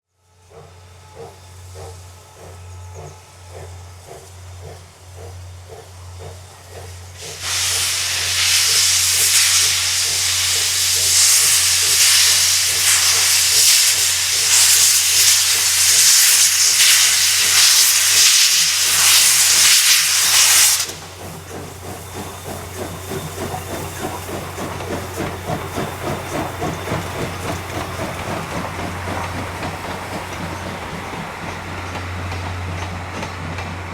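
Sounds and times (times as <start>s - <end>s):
steam locomotive exhaust beats: 0.2s - 33.9s
steam hissing: 0.5s - 33.9s.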